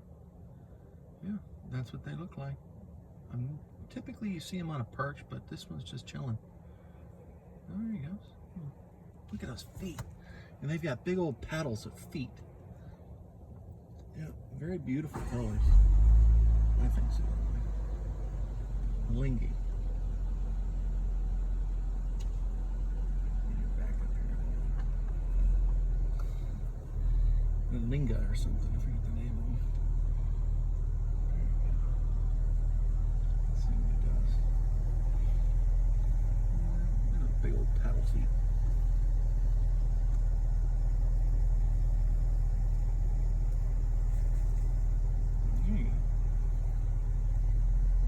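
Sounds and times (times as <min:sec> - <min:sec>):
steady low rumble: 0:00.0 - 0:48.0.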